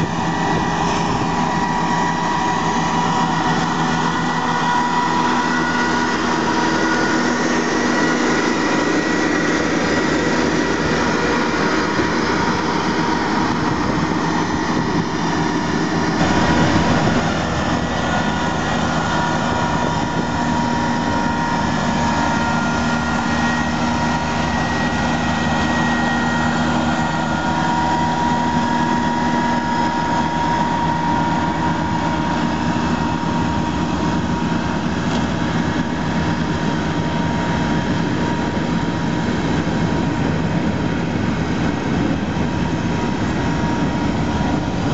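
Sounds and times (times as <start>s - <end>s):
diesel mower engine running: 0.0s - 44.9s
steady whine: 0.0s - 44.9s.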